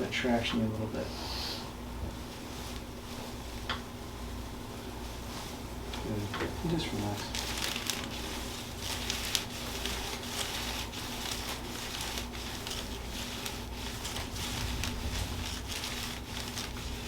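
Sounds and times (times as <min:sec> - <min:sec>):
low room hum: 0:00.0 - 0:17.0
clothing rustling on table: 0:02.1 - 0:17.0.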